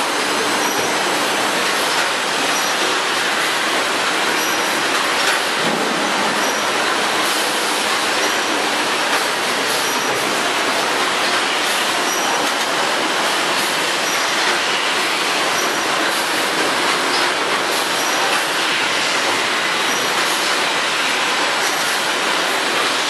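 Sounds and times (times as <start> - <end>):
packaging machine running: 0.0 - 23.0.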